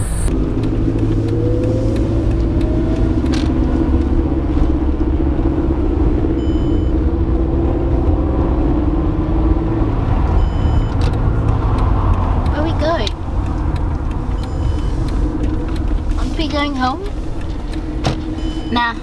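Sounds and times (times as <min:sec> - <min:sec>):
car engine: 0:00.0 - 0:19.0
road rumble inside car: 0:00.0 - 0:19.0.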